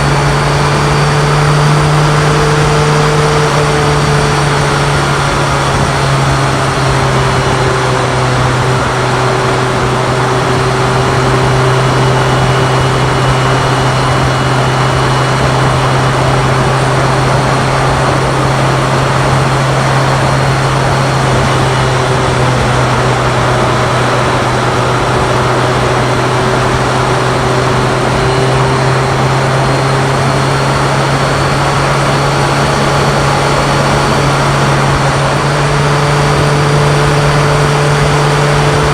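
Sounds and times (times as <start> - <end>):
motorcycle engine droning: 0.0 - 38.9
wind and road noise: 0.0 - 38.9.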